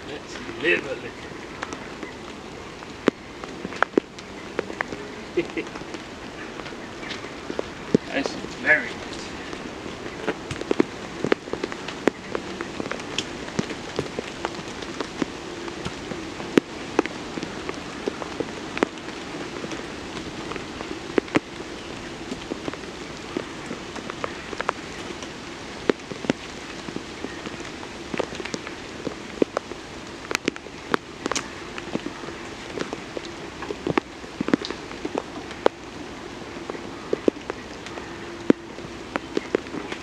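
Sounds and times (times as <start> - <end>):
rain on a tarp: 0.0 - 40.0
raindrops tapping tarp: 0.0 - 40.0.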